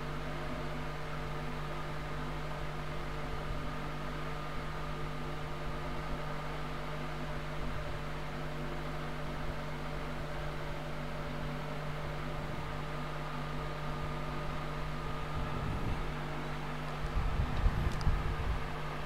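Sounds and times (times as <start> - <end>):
fan or motor humming: 0.0 - 19.0.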